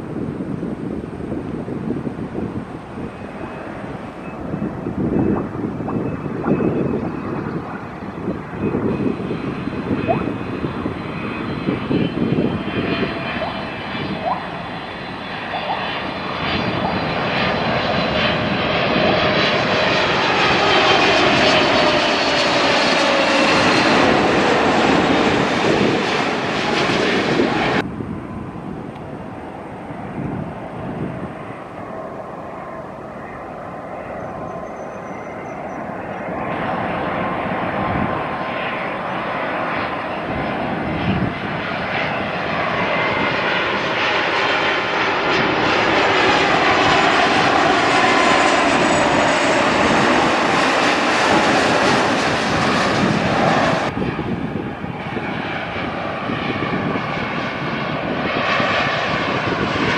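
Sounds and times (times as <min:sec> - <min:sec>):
airliner approaching: 0:00.0 - 0:59.9
jet engines roaring: 0:00.0 - 0:59.9.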